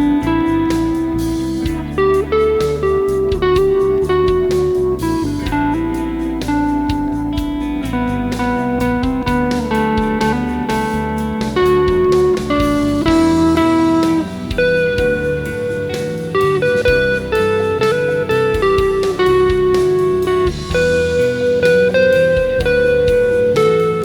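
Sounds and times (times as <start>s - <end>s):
ambient rock backing track: 0.0s - 24.0s
electric guitar lead line: 0.0s - 24.0s.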